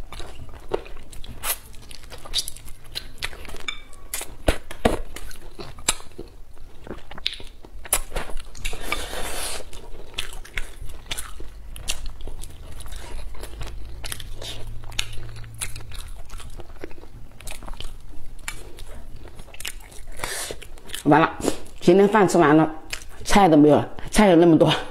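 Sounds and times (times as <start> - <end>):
person chewing and crunching food: 0.0 - 21.9.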